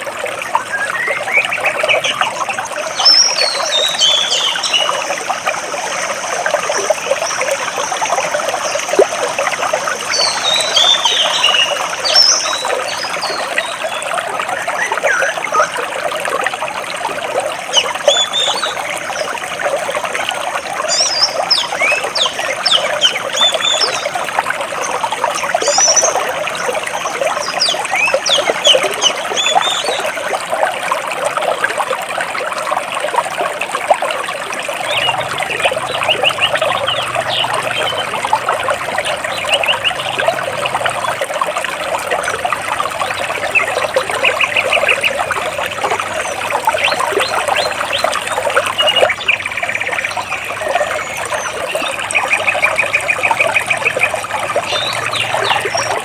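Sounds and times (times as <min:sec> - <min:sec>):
songbirds chirping: 0:00.0 - 0:16.0, 0:17.5 - 0:30.4, 0:34.4 - 0:41.2, 0:41.8 - 0:56.0
stream water trickling between rocks: 0:00.0 - 0:56.0.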